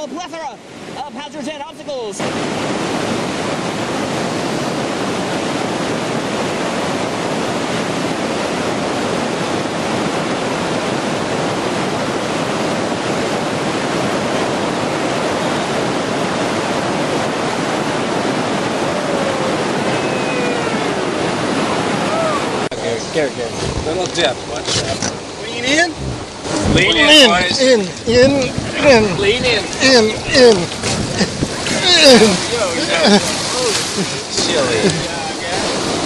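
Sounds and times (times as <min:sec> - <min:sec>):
whitewater rapids rushing: 0:00.0 - 0:36.0.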